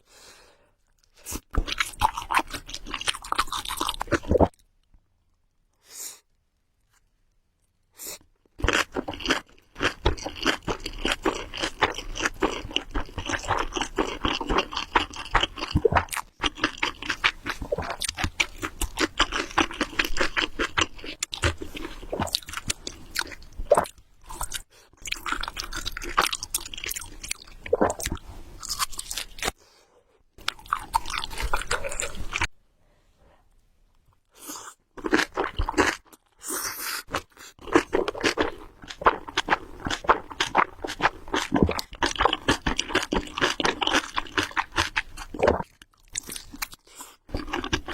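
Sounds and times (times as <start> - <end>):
chewing food crunching: 1.0 - 4.7, 8.6 - 29.6, 30.4 - 32.5, 35.0 - 47.9.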